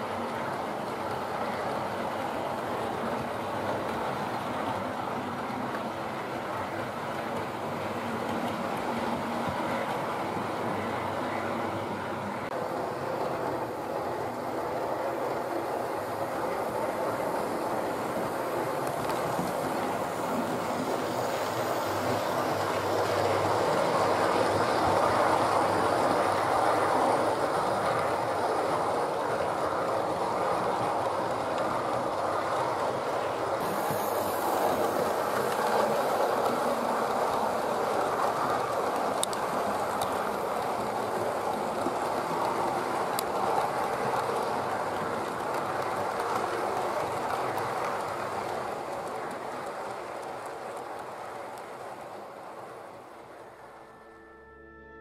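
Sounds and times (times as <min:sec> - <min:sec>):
model train rumbling on track: 0:00.0 - 0:55.0.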